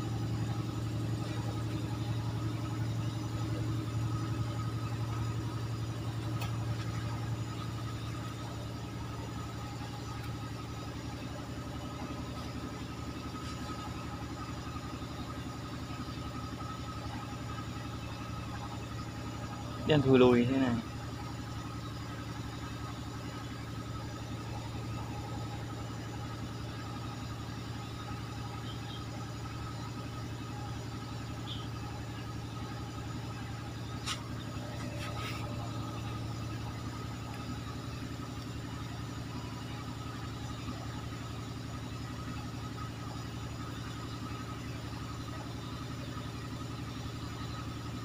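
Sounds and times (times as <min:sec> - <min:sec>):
motor humming: 0:00.0 - 0:46.6.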